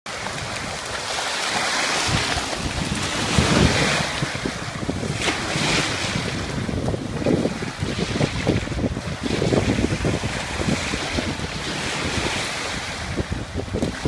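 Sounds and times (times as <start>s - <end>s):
surf breaking on beach: 0.1s - 14.0s
wind buffeting microphone: 0.1s - 14.0s.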